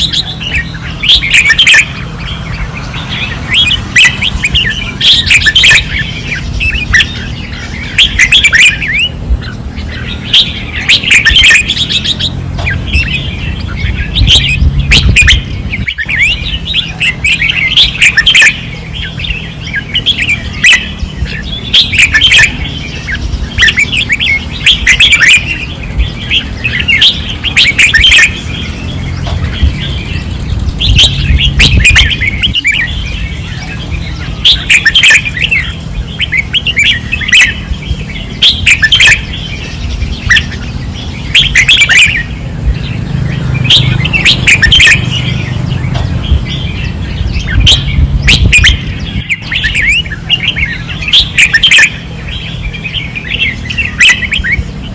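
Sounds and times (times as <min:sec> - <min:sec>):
bulbuls singing: 0:00.0 - 0:54.9
steady low rumble: 0:00.0 - 0:54.9.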